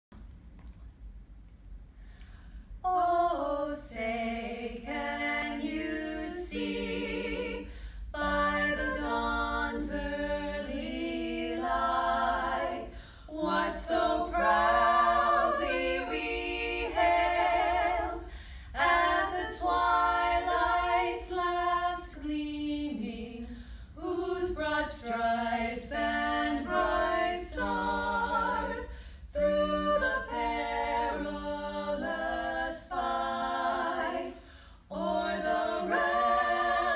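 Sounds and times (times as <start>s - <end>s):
women singing a cappella: 2.8s - 36.9s.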